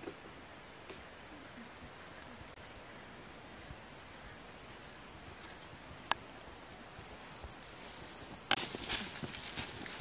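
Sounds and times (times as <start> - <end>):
pulsing high-pitched insect chorus: 0.0 - 10.0.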